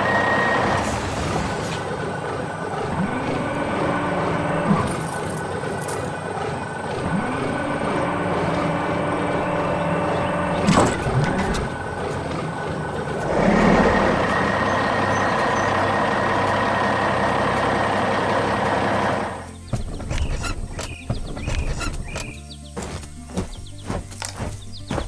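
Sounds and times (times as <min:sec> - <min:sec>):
heavy vehicle running: 0:00.0 - 0:25.0.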